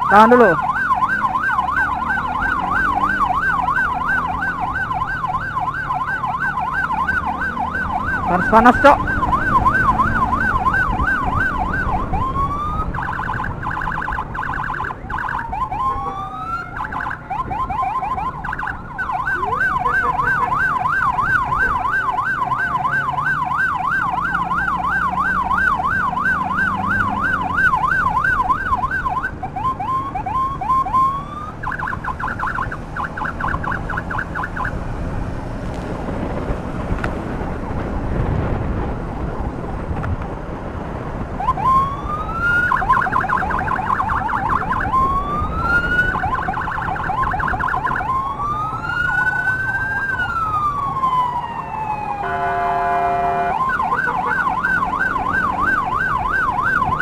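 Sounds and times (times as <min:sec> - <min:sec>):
electronic emergency siren: 0:00.0 - 0:34.8, 0:41.4 - 0:57.0
road and engine noise: 0:00.0 - 0:57.0.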